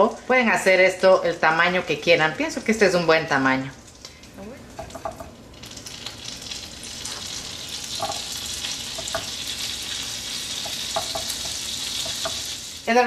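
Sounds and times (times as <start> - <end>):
butter sizzling in a frying pan: 0.0 - 13.0.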